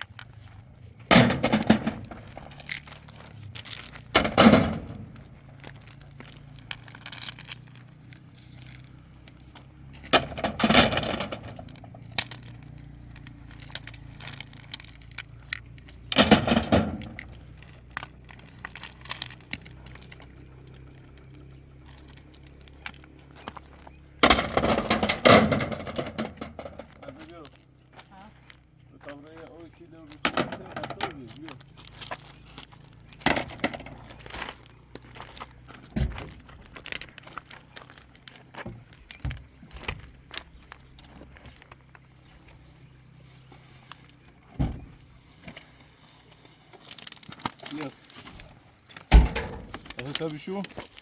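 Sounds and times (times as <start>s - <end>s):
stones clattering onto stones: 0.1s - 27.6s, 30.1s - 41.7s, 45.5s - 51.0s.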